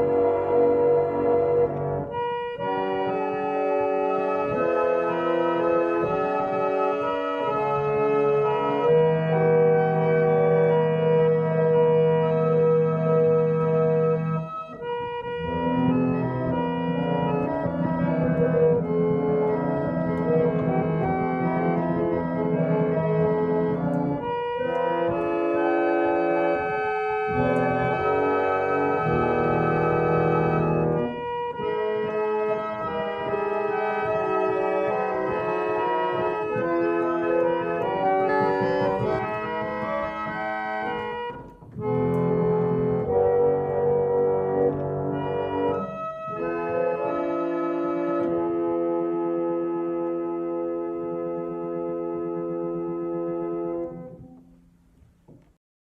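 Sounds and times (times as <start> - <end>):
reed organ chords: 0.0 - 54.5.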